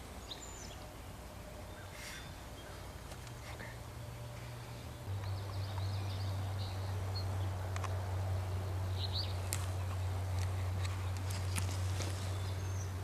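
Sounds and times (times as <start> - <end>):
faint songbird chirps: 0.0 - 13.0
steady low hum: 0.0 - 13.0.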